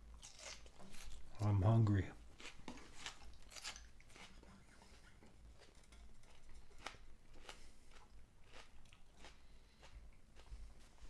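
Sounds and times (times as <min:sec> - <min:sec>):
person chewing raw onion: 0:00.0 - 0:11.0.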